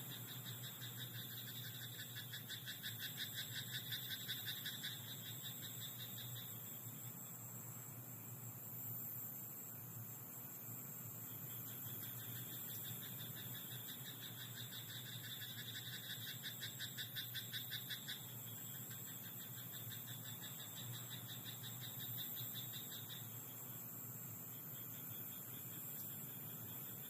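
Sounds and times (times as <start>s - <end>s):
frogs pulsed croaking: 0.0s - 7.9s, 9.4s - 27.0s.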